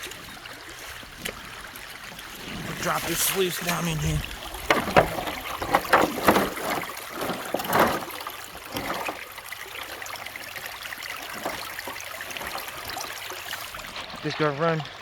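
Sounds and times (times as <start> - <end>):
creek water trickling: 0.0 - 15.0
water splashing: 0.0 - 15.0.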